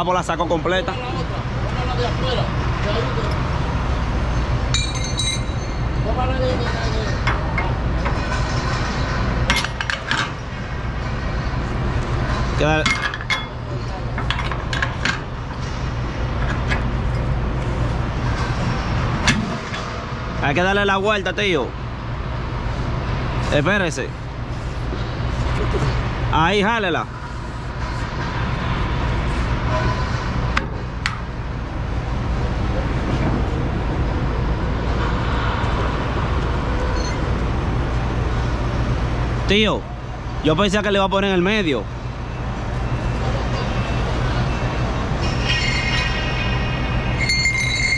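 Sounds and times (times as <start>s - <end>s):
engine rumbling: 0.0s - 47.9s.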